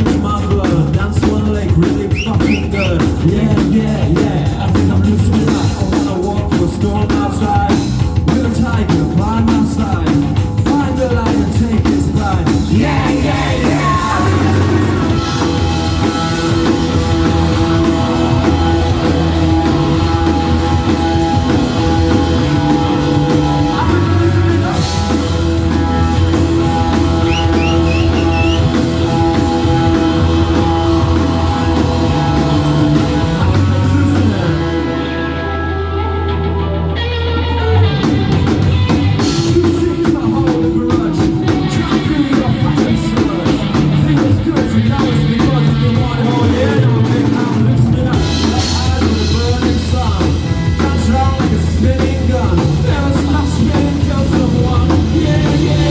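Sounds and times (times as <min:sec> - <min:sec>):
drum kit: 0:00.0 - 0:55.9
electric guitars: 0:00.0 - 0:55.9
person singing: 0:00.0 - 0:55.9.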